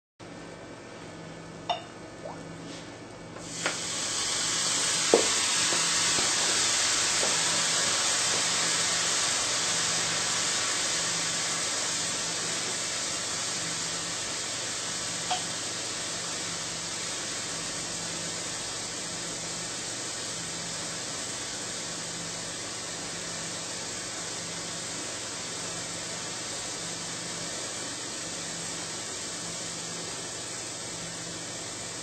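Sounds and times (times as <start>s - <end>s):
ice sizzling on a hot plate: 3.4s - 32.0s.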